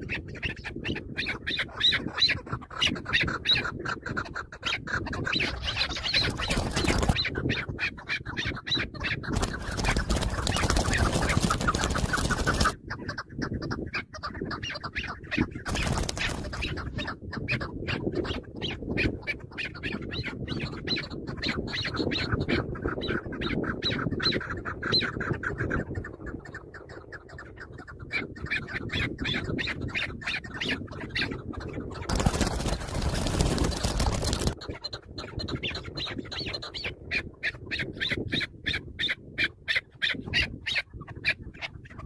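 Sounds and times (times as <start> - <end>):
partridge clucking calls: 0.0 - 42.0.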